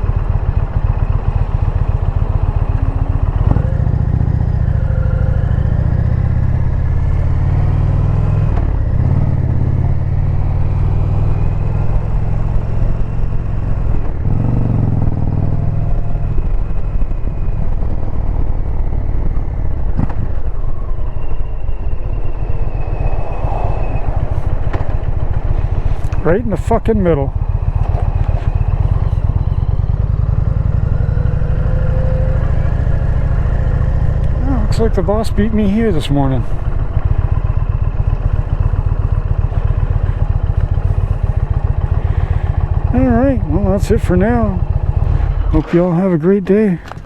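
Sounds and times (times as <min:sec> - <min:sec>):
motorcycle engine running: 0:00.0 - 0:21.9, 0:22.6 - 0:47.0.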